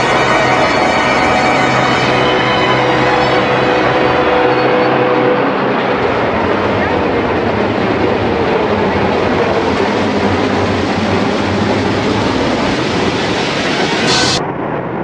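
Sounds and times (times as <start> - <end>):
military aircraft flying over: 0.0 - 15.0.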